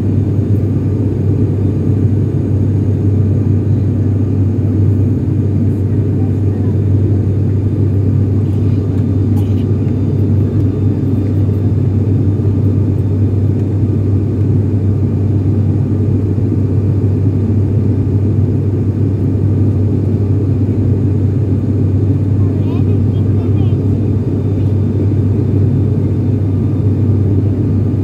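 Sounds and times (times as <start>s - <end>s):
turboprop engines droning in cabin: 0.0s - 28.0s.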